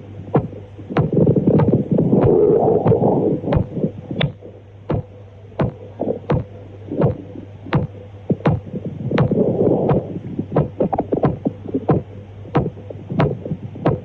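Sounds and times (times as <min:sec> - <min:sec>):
steady low hum: 0:00.0 - 0:14.0
sharp heartbeat cracks: 0:00.3 - 0:14.0.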